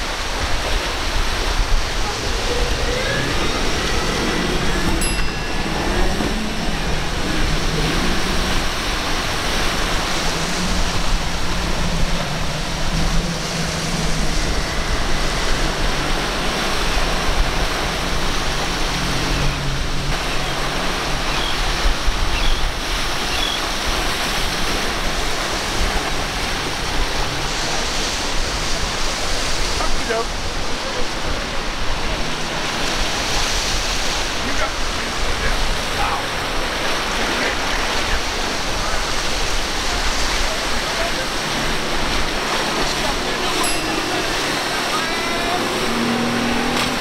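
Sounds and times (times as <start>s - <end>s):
outboard engines droning: 0.0s - 47.0s
surf and breaking waves: 0.0s - 47.0s.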